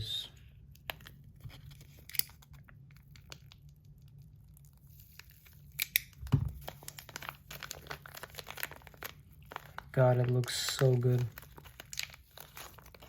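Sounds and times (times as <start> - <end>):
packaging rustling and crinkling: 0.8 - 13.0.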